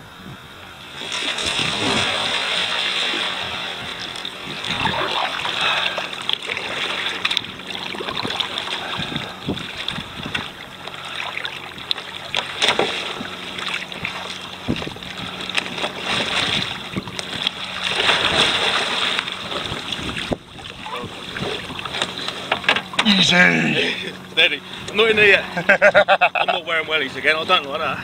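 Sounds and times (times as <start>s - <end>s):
water splashing and sloshing: 0.6s - 28.0s.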